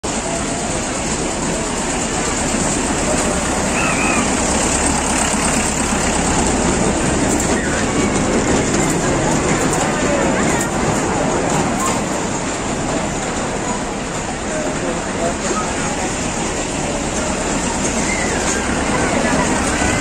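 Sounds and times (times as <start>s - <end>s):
faint voices: 0.0s - 20.0s
kiddie train running on track: 0.0s - 20.0s.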